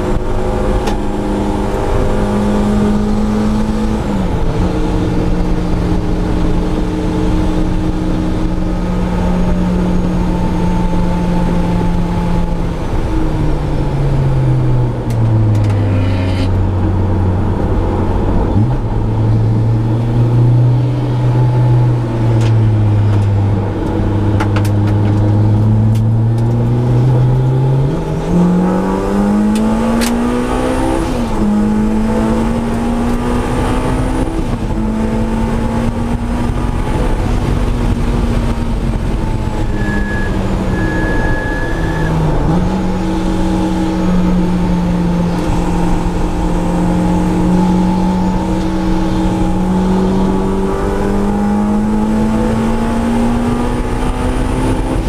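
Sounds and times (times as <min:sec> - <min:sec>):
car engine from inside cabin: 0:00.0 - 0:55.0.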